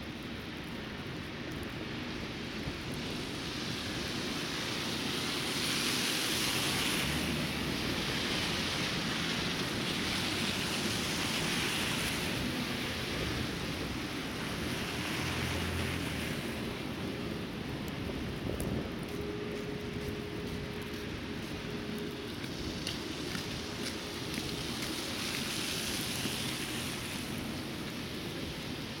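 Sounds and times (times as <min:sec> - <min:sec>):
blizzard wind rushing: 0:00.0 - 0:29.0.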